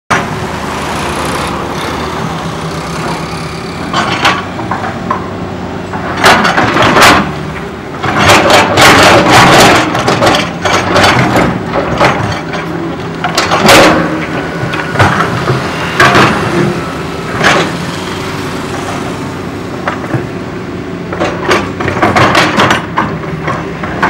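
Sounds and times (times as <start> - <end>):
excavator diesel engine running: 0.1 - 24.0.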